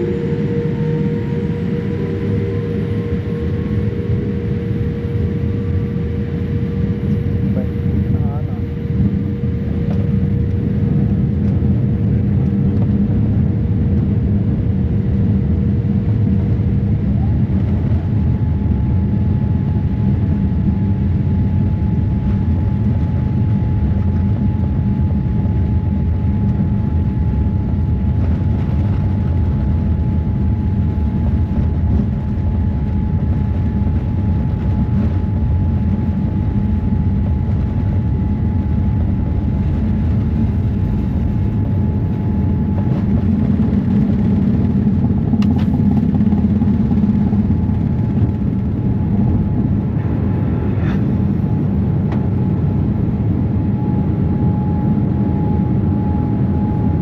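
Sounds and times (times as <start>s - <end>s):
airliner engines rumbling in cabin: 0.0s - 57.0s
faint hum: 0.0s - 57.0s.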